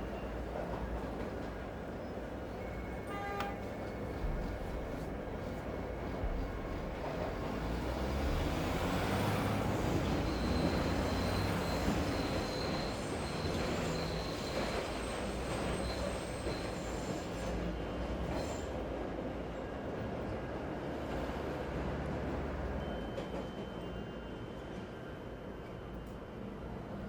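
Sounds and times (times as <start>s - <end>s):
train rumble: 0.0s - 24.9s
city ambience: 0.0s - 27.0s.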